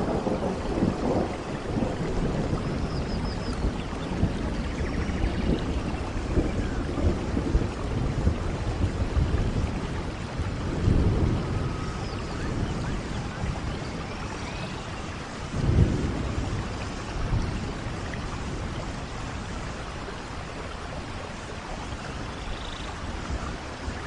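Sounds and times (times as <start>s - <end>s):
rainfall hissing: 0.0s - 24.0s
thunder rumbling: 0.0s - 24.0s.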